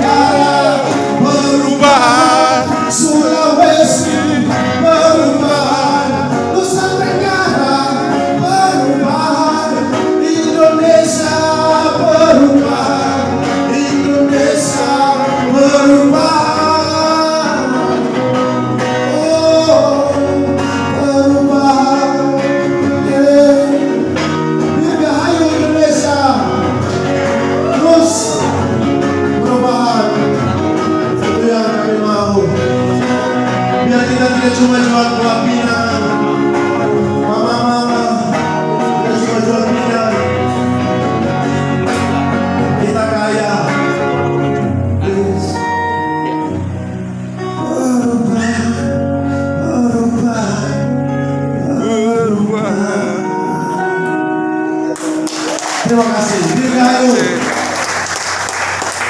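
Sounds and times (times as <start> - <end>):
man singing: 0.0 - 57.8
instrumental accompaniment: 0.0 - 59.0.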